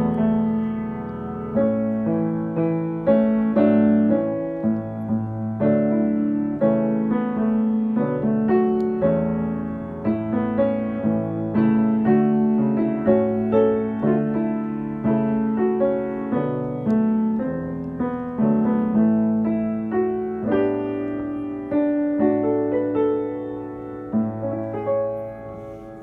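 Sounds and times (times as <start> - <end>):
grand piano playing: 0.0 - 26.0.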